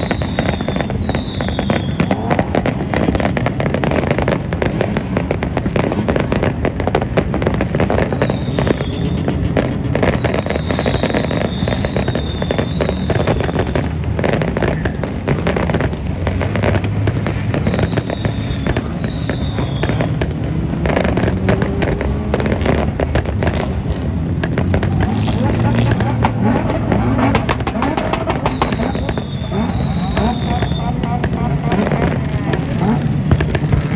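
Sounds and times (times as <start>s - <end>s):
firework high whistle: 0.0s - 33.9s
fireworks crackling bangs: 0.0s - 33.9s.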